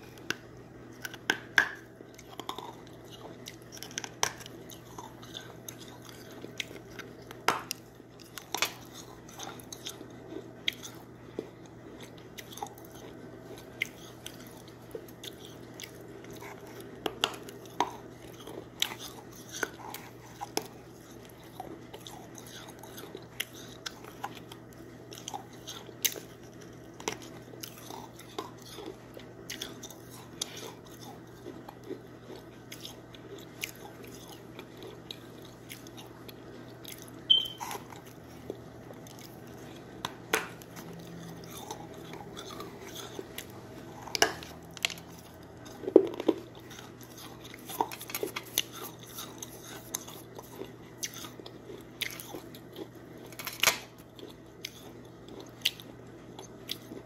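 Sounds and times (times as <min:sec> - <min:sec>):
chewing: 0:00.0 - 0:57.0
person crunching hard food: 0:00.0 - 0:57.0.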